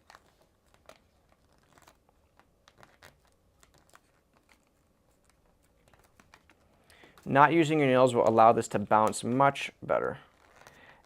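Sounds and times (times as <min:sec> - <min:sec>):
paper rustling and crinkling: 0:00.0 - 0:08.4, 0:10.1 - 0:11.0.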